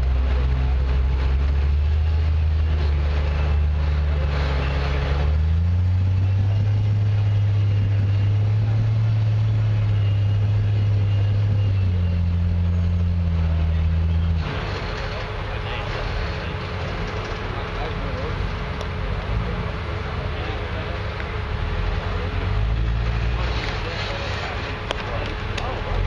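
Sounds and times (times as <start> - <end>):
off-road vehicle engine under load: 0.0 - 26.0.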